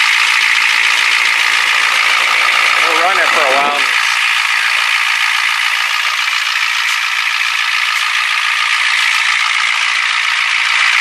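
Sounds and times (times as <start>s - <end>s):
diesel engine running: 0.0s - 11.0s
engine fan spinning: 0.0s - 11.0s.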